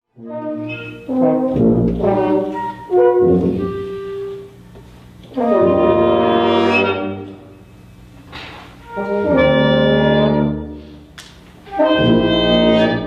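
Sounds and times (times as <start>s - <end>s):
brass ensemble holding chords: 0.1s - 8.1s, 8.8s - 13.0s.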